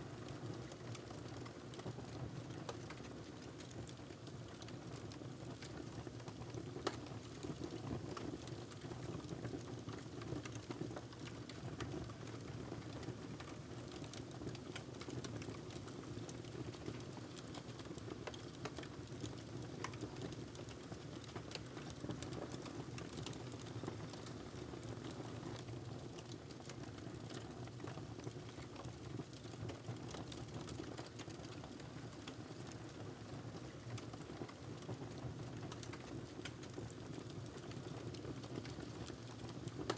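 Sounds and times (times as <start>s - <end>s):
wood fire crackling and popping: 0.1s - 39.9s.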